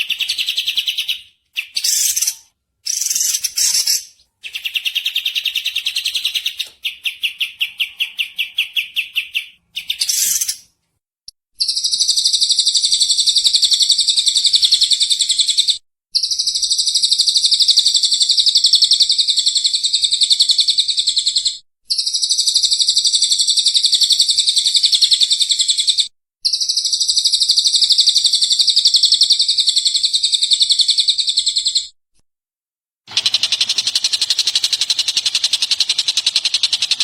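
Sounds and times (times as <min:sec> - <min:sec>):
bird song rapid chattering: 0:00.0 - 0:10.7, 0:11.6 - 0:31.9, 0:33.1 - 0:37.0.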